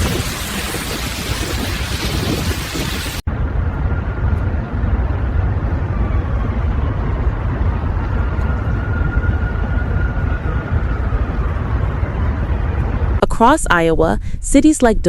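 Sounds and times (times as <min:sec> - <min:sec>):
motor vehicle rumble: 0:00.0 - 0:13.2.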